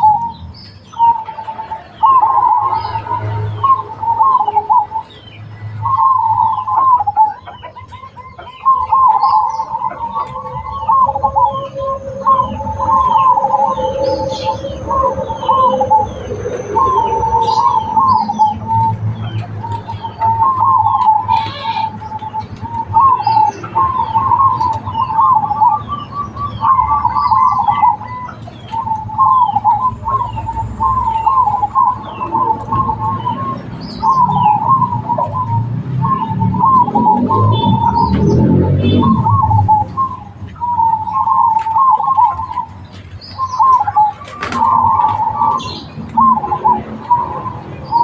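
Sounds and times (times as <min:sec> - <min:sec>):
doves cooing: 0:00.0 - 0:48.0
small birds chirping: 0:00.0 - 0:48.0.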